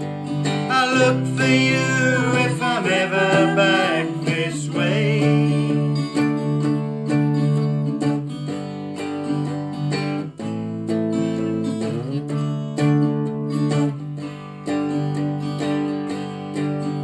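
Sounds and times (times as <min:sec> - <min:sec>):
strummed guitar chords: 0:00.0 - 0:17.0.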